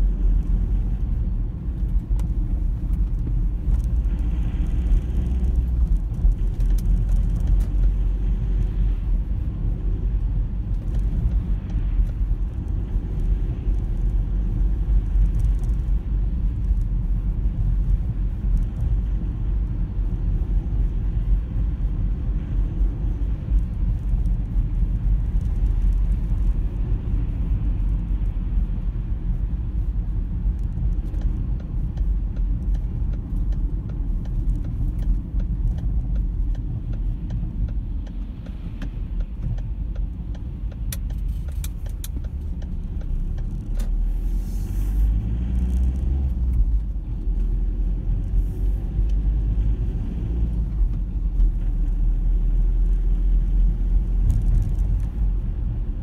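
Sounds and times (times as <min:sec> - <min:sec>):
car driving rumble inside cabin: 0:00.0 - 0:56.0.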